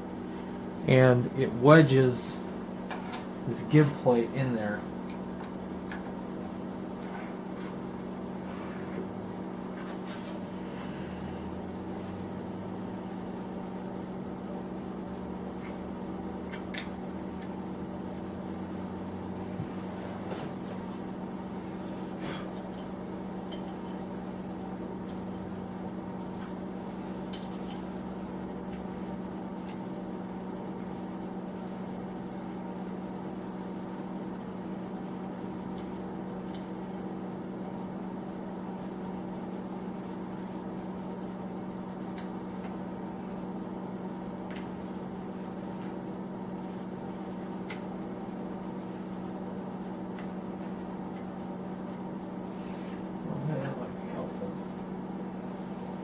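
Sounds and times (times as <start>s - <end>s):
space heater electric hum: 0.0s - 56.0s.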